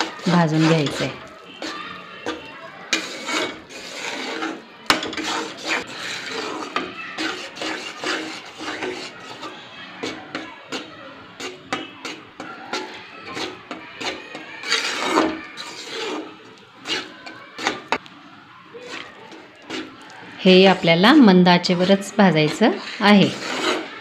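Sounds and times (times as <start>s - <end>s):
spatula knocking pan: 0.0s - 18.1s, 18.9s - 23.9s
spatula scraping metal pan: 0.0s - 24.0s.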